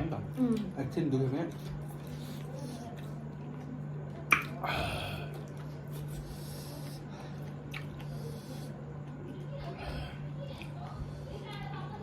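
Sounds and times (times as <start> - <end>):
chewing: 1.5 - 11.7.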